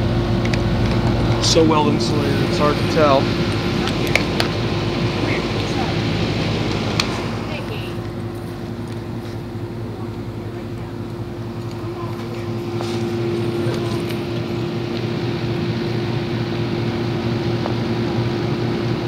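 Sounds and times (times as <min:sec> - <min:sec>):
air conditioner condenser humming: 0:00.0 - 0:19.0.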